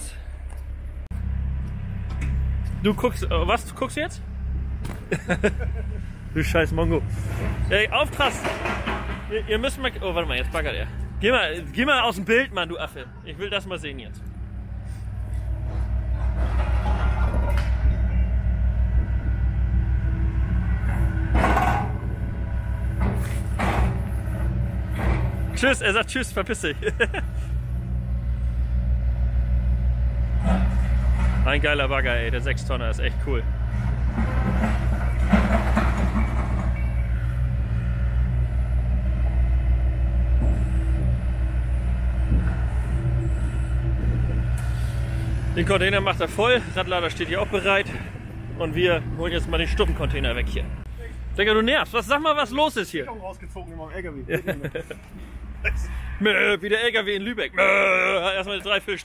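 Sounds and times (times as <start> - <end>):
excavator diesel engine running: 0.0 - 56.2.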